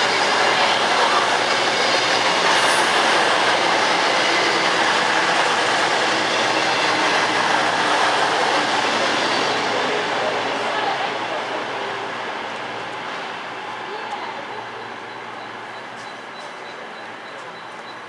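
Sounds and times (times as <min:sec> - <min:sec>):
train rail noise: 0:00.0 - 0:18.0.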